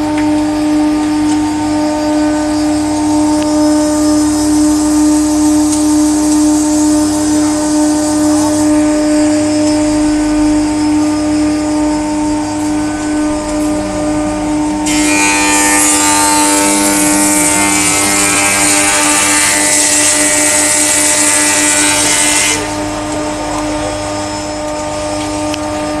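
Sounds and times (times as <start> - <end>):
wood planer humming: 0.0 - 26.0.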